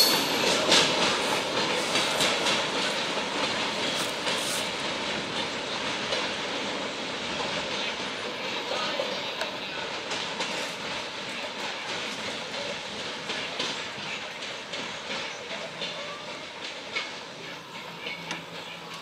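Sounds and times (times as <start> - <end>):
rail joint clicks: 0.0 - 19.0
train wheels rumbling on rail: 0.0 - 19.0.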